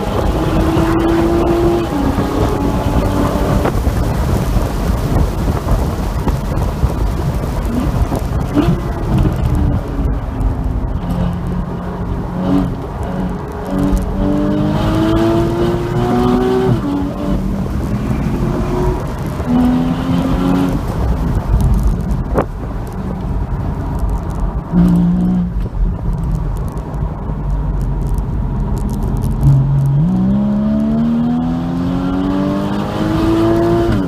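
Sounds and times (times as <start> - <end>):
car engine accelerating: 0.0 - 34.0
wind and road noise: 0.0 - 34.0.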